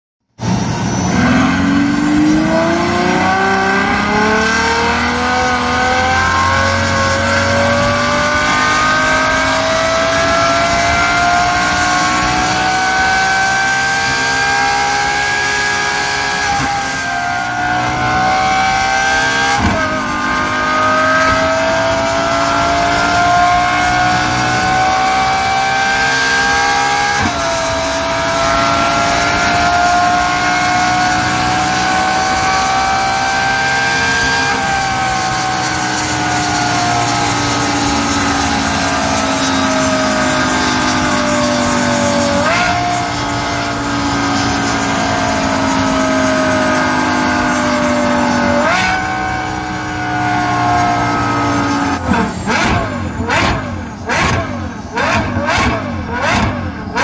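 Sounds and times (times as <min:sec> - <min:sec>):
engine revving at full throttle: 0:00.3 - 0:57.0.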